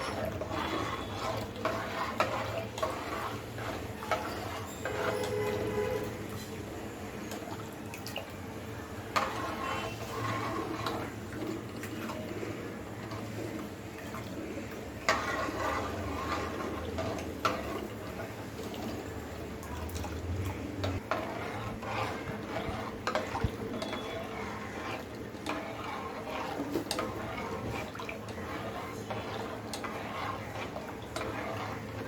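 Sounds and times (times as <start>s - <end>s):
spoon stirring liquid in pot: 0.0s - 32.0s.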